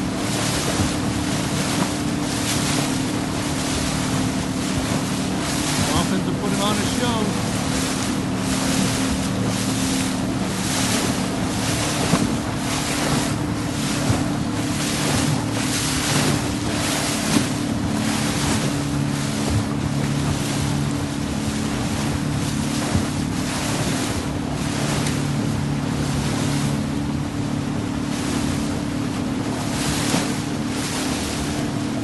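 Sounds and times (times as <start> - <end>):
boat engine humming: 0.0 - 32.0
water splashing along hull: 0.0 - 32.0.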